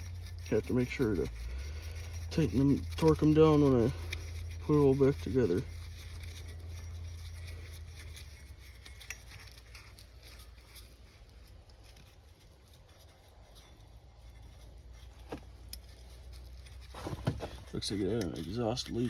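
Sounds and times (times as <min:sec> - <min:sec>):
metal tools clicking and knocking: 0:00.0 - 0:16.9, 0:17.6 - 0:19.0
low steady hum: 0:00.0 - 0:19.0.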